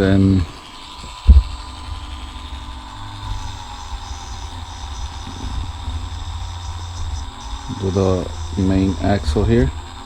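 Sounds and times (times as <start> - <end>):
rotary tool whining: 0.0 - 10.0.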